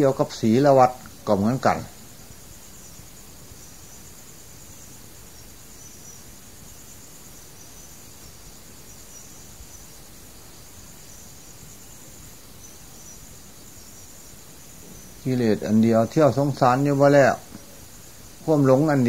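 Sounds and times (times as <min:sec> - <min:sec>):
background hiss: 0:00.0 - 0:19.0
insects chirring: 0:00.0 - 0:19.0.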